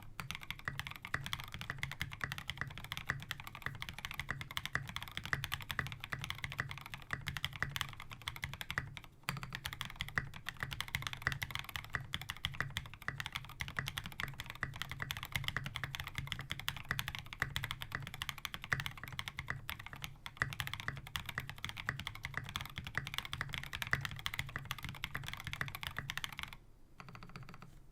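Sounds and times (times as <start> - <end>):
fast typing on mechanical keyboard: 0.0 - 27.7.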